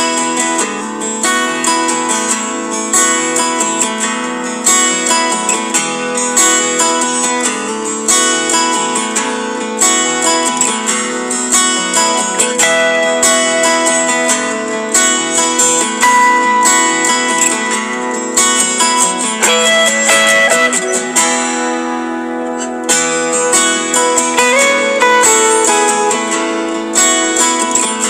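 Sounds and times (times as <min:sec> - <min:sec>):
acoustic guitar plucked and strummed: 0:00.0 - 0:28.0.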